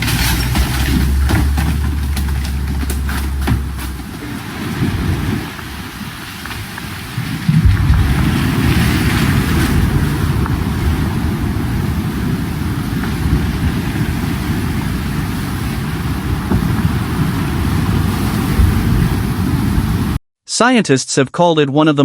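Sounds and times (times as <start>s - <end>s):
low rumbling noise: 0.0s - 6.1s, 7.4s - 20.2s.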